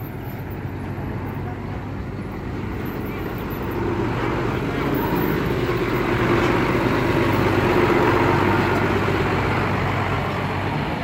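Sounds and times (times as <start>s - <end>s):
dump truck diesel engine: 0.0s - 11.0s.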